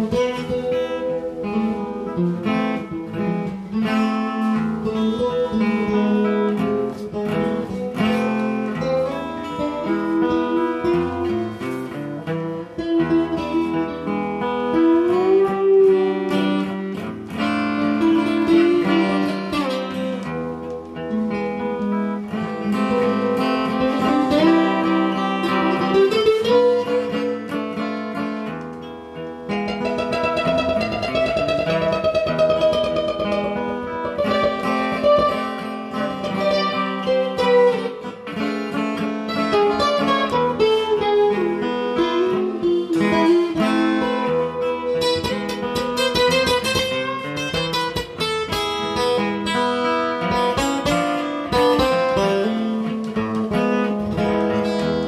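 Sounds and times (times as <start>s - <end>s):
acoustic guitars playing flamenco: 0.0s - 55.0s.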